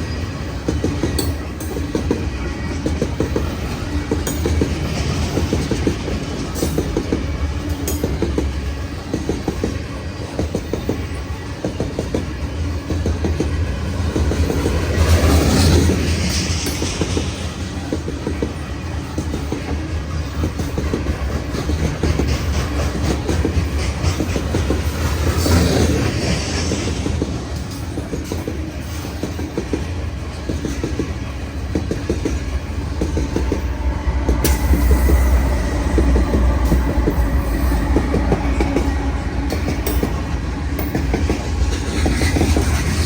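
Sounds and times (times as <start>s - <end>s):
train wheels clicking over rail joints: 0.0s - 43.0s.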